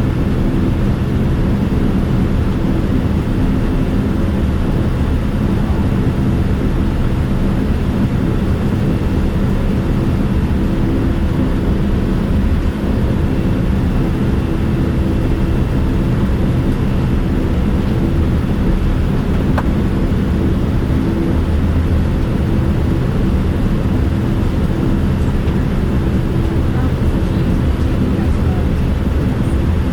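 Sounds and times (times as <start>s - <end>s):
jet engine cabin rumble: 0.0s - 29.9s.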